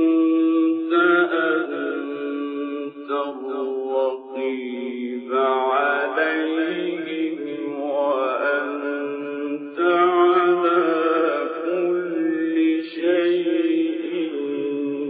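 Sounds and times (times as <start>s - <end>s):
man chanting melismatic recitation: 0.0s - 15.0s.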